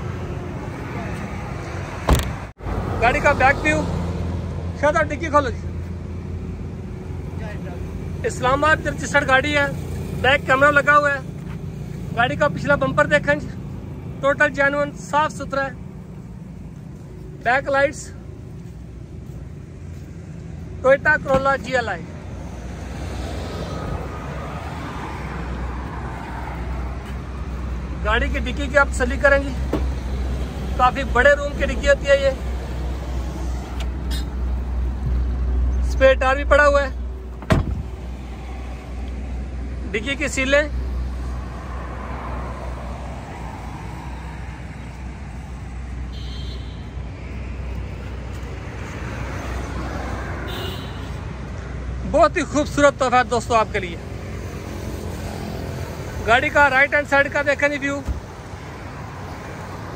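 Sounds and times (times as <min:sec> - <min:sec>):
traffic rumble and hiss: 0:00.0 - 0:59.9.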